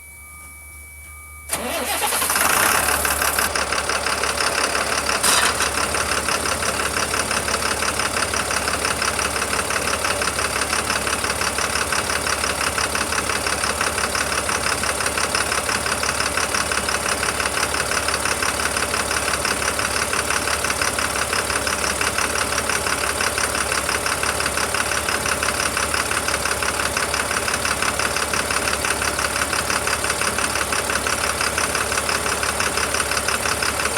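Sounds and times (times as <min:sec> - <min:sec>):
diesel engine starting and idling: 0:01.1 - 0:33.9.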